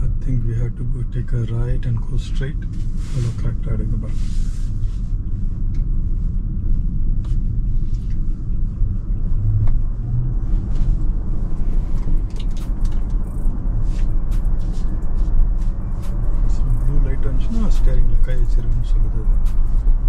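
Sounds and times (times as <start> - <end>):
road and tyre rumble in car: 0.0 - 20.0.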